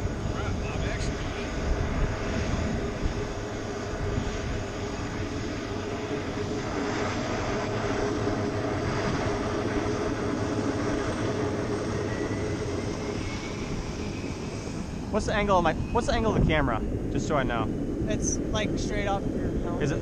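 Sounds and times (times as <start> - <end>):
helicopter drone: 0.0 - 20.0
rising whine: 0.0 - 20.0.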